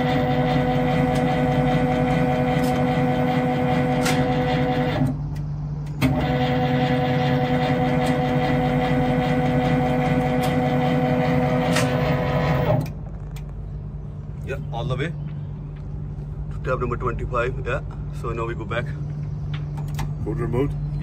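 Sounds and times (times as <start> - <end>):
motor drive humming with a whine: 0.0 - 16.6, 17.7 - 21.0.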